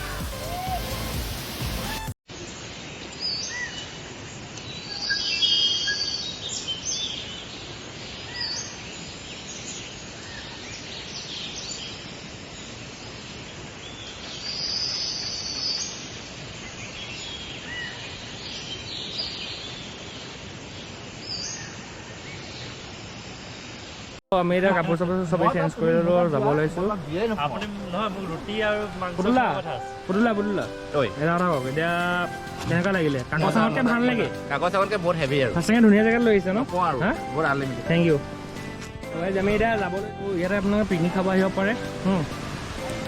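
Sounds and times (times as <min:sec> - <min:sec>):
outdoor background hiss: 0:00.0 - 0:43.0
wild birds chirping: 0:02.3 - 0:43.0.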